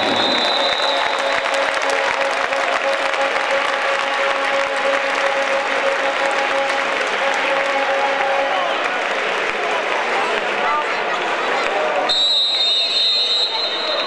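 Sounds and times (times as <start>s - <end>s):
crowd clapping: 0.0s - 14.0s.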